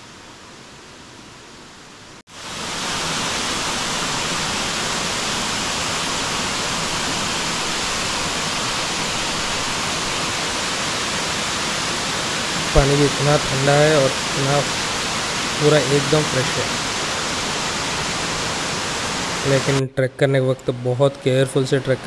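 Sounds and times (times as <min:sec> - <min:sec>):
waterfall rushing: 0:02.1 - 0:19.9.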